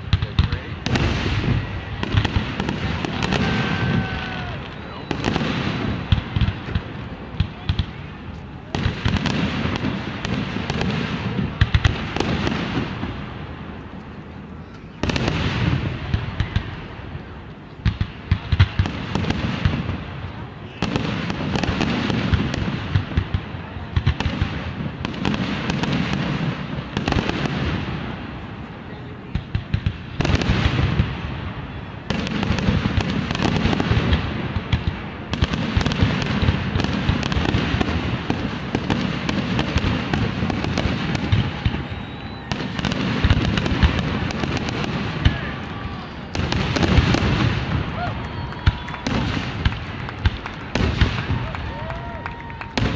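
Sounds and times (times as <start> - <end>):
fireworks bangs and crackling pops: 0.0 - 52.9.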